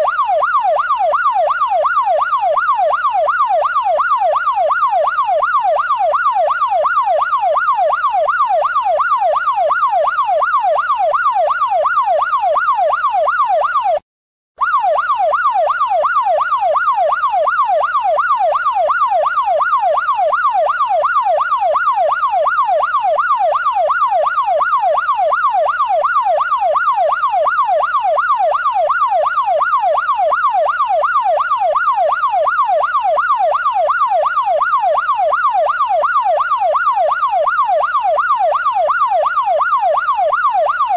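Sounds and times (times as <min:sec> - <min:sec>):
electronic police siren yelping: 0:00.0 - 0:14.0, 0:14.6 - 0:40.9.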